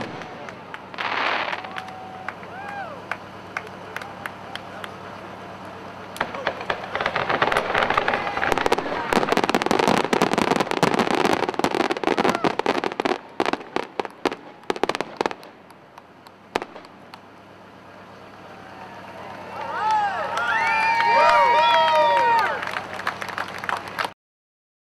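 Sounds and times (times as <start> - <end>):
fireworks crackling and popping: 0.0 - 24.1.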